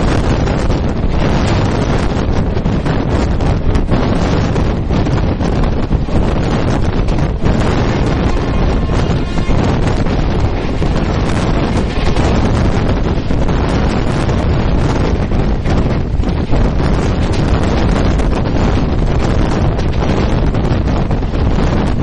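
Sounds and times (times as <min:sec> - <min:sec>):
deep train rumble: 0:00.0 - 0:22.0
wind buffeting microphone: 0:00.0 - 0:22.0.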